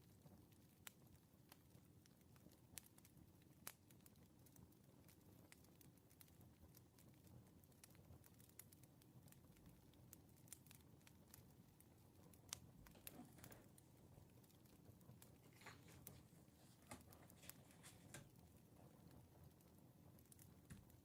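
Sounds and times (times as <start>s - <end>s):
faint crackling wood fire: 0.0s - 21.0s.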